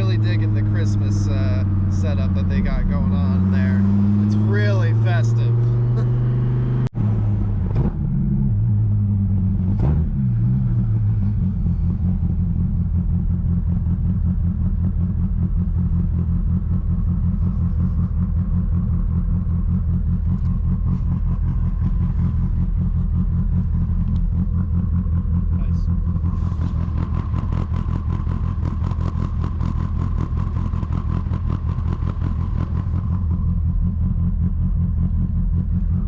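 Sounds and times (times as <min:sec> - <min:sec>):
car engine low drone: 0:00.0 - 0:36.0.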